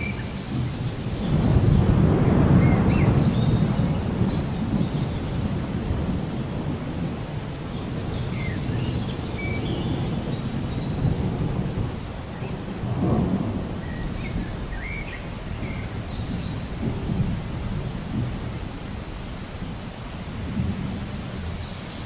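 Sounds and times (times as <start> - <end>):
rain falling: 0.0 - 22.0
rumble of thunder: 0.0 - 22.0.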